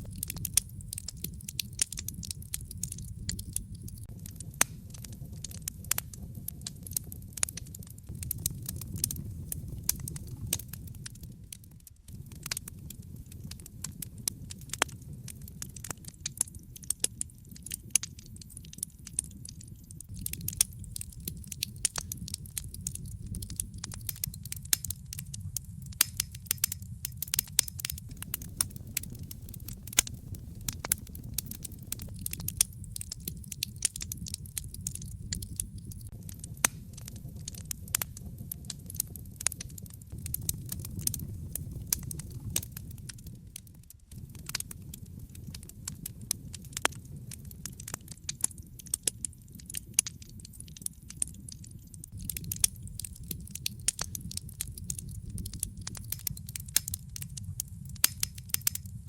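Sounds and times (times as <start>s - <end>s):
low rumble of burning logs: 0.0s - 59.0s
wood fire crackling: 0.0s - 59.0s.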